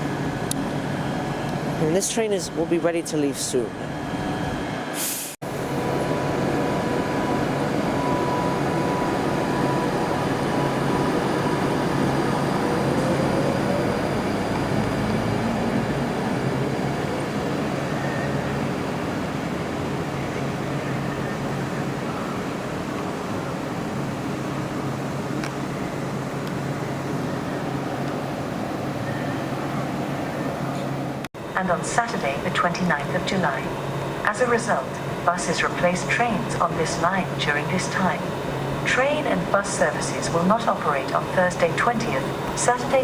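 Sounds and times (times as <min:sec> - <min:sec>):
electric train rumble: 0:00.0 - 0:43.0.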